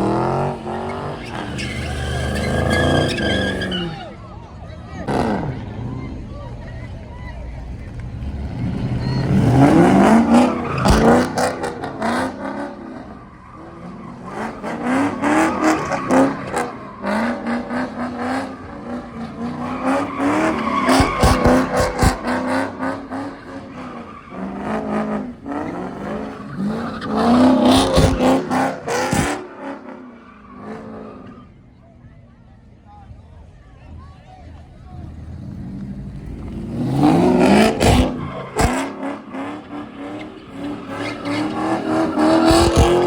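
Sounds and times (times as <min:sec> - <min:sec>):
car engine revving: 0:00.0 - 0:04.2, 0:04.9 - 0:06.6, 0:07.6 - 0:31.4, 0:34.8 - 0:43.0
tires squealing: 0:00.0 - 0:31.8, 0:33.9 - 0:43.0.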